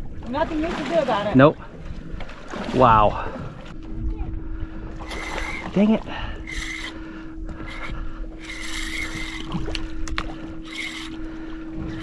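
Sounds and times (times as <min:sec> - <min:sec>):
boat low hum: 0:00.0 - 0:12.0
water slapping against hull: 0:00.0 - 0:12.0.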